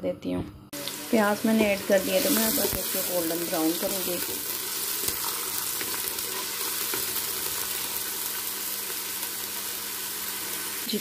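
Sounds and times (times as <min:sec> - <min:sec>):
onions sizzling in oil: 0:00.8 - 0:11.0.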